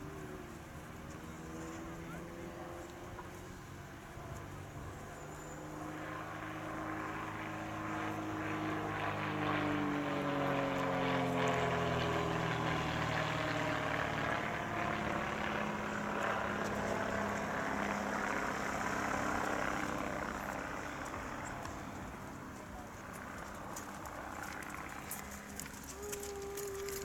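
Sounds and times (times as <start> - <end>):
propeller plane engine in flight: 0.0 - 27.0.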